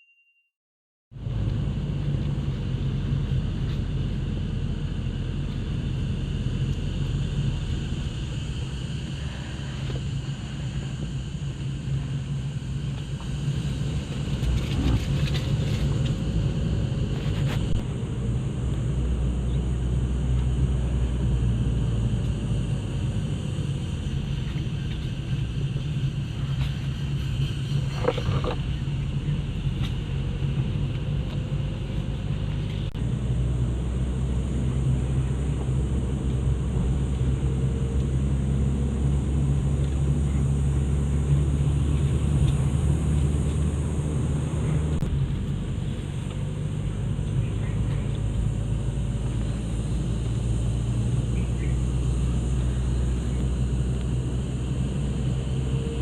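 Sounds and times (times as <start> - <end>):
vehicle engine running: 1.1 - 56.0
high insect drone: 2.9 - 56.0.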